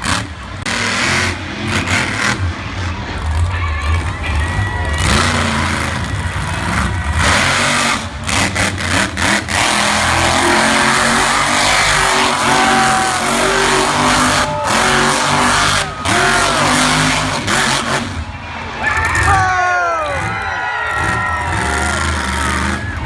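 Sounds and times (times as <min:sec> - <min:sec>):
truck engine revving hard: 0:00.0 - 0:23.0.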